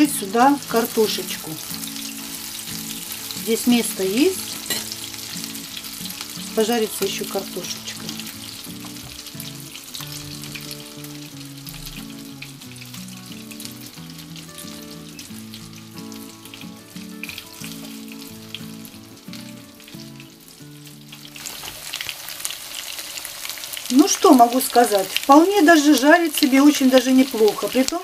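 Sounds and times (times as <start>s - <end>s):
food sizzling in hot oil: 0.0s - 28.0s
soft background music: 0.0s - 28.0s.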